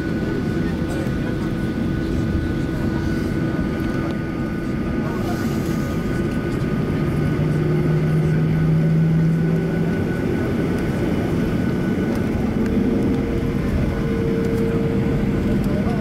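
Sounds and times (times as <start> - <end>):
jet engine rumble in cabin: 0.0 - 16.0.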